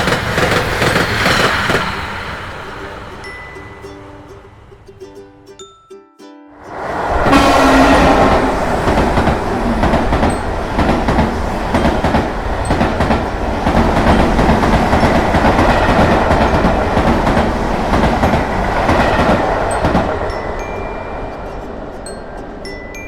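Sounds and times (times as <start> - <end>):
train wheels on rails: 0.0 - 5.0, 6.7 - 23.0.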